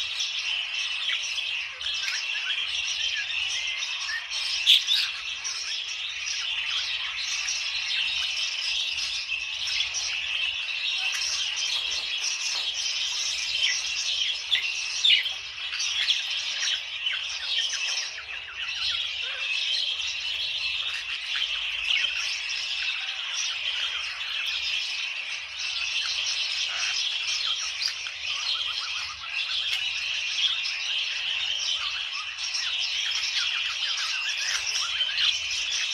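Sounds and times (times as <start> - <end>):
budgerigars chattering: 0.0 - 35.9.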